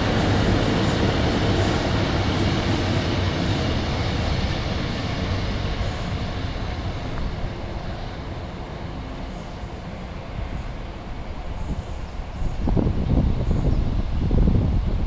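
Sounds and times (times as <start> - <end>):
diesel train engine hum: 0.0 - 15.0
train wheel noise: 0.0 - 15.0.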